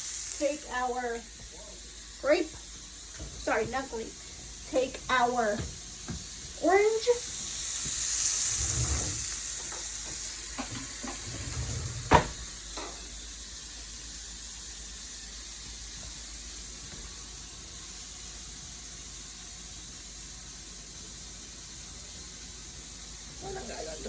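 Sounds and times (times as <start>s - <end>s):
fish and onions sizzling: 0.0s - 24.0s.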